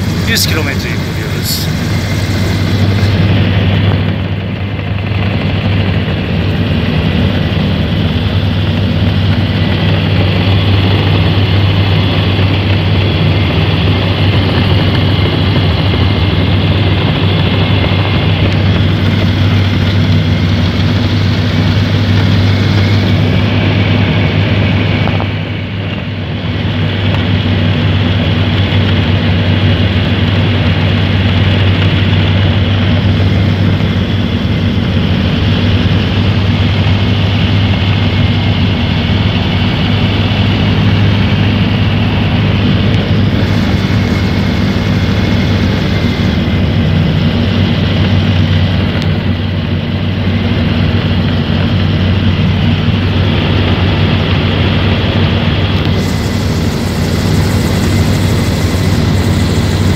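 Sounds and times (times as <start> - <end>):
gyrocopter engine drone: 0.0 - 59.9.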